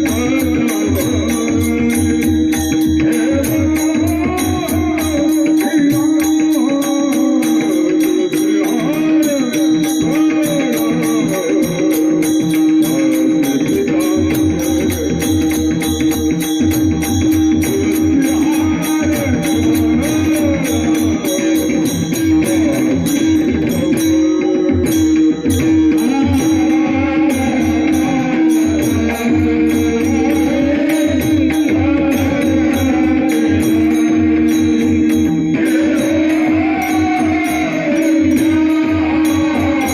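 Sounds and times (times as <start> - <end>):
hand drum: 0.0 - 39.9
man singing: 0.0 - 39.9
small hand cymbals ringing: 0.0 - 39.9.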